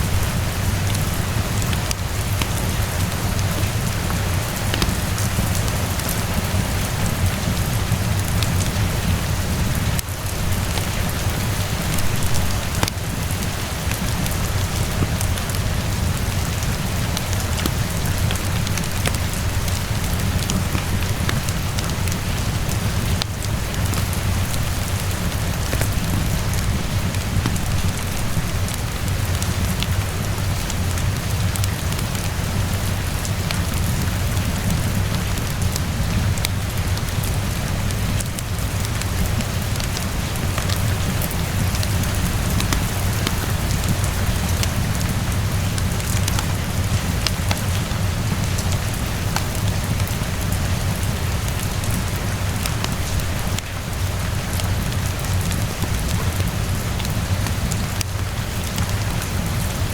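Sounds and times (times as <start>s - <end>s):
steady rainfall: 0.0s - 59.9s
wood fire crackling: 0.0s - 59.9s.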